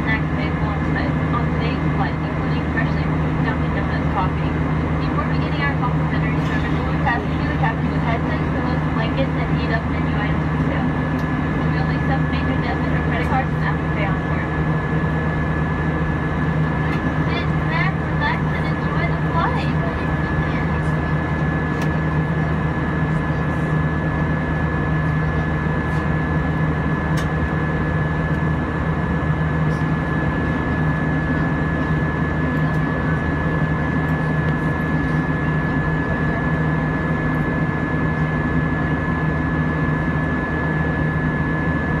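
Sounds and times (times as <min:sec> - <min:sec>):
aircraft cabin engine drone: 0:00.0 - 0:42.0.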